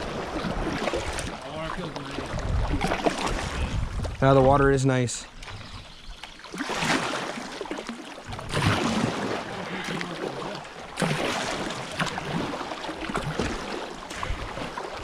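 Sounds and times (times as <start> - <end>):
paddle strokes splashing water: 0.0 - 4.6, 5.2 - 15.0
water washing: 0.0 - 5.6, 6.4 - 15.0.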